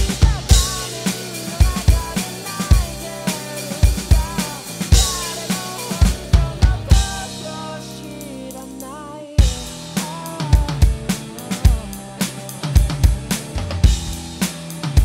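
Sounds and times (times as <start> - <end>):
electronic drum kit hits: 0.0 - 7.7, 9.4 - 15.0
person singing: 0.0 - 12.9.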